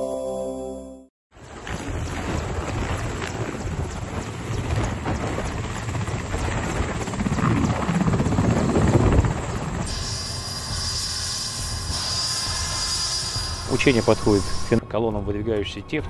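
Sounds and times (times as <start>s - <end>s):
helicopter rotor noise: 1.4s - 14.8s
high turbine whine: 1.8s - 14.8s.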